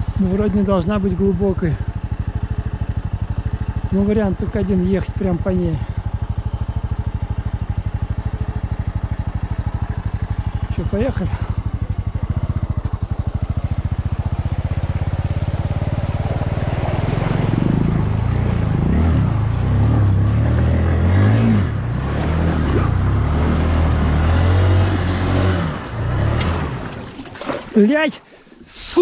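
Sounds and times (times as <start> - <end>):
motorcycle engine revving: 0.0 - 28.0
motorcycle splashing through mud: 0.0 - 29.0.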